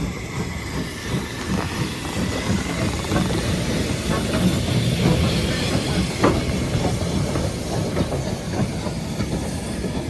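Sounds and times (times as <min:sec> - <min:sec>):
steam train hissing: 0:00.0 - 0:10.0
wheels clicking over rail joints: 0:00.0 - 0:10.0.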